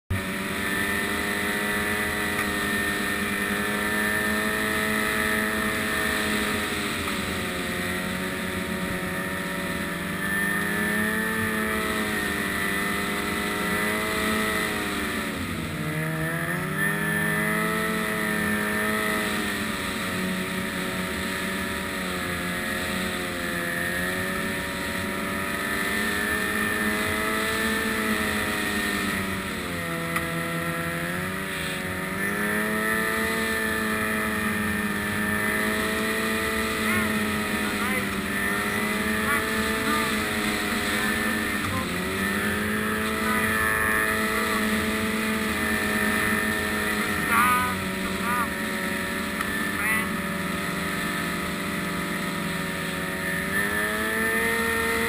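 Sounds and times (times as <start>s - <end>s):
snowmobile engine running: 0.1s - 55.0s.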